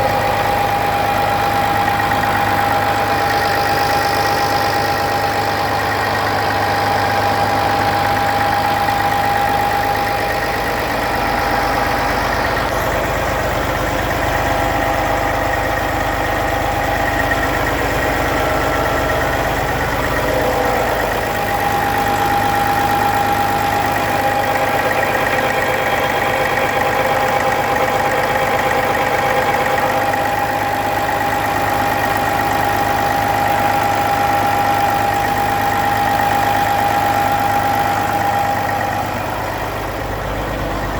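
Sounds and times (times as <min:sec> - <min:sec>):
constant whine: 0:00.0 - 0:40.9
diesel truck engine idling: 0:00.0 - 0:40.9.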